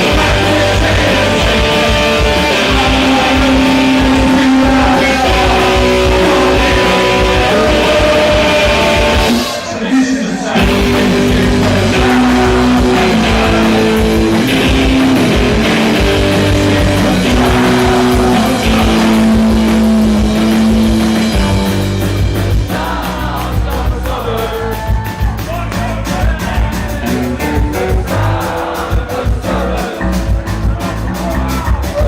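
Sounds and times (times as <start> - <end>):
punk rock band playing: 0.0 - 32.0.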